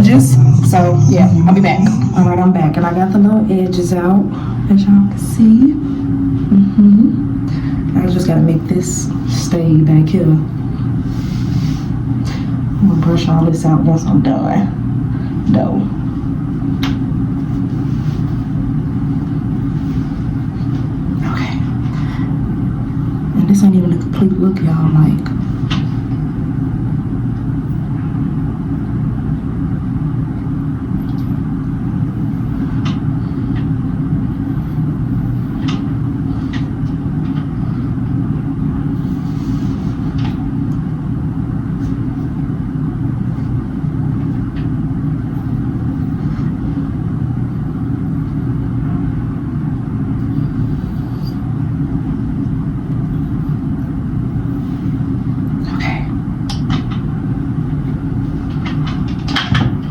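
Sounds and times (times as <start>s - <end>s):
low mechanical rumble: 0.0s - 59.9s.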